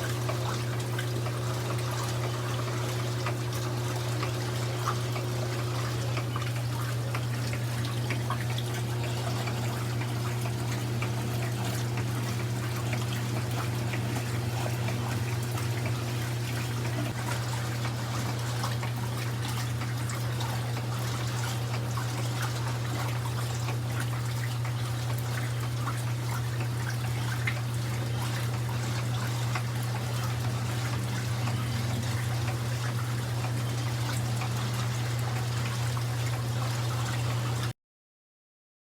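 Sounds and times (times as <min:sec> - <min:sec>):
water pouring and trickling: 0:00.0 - 0:37.7
washing machine humming: 0:00.0 - 0:37.8.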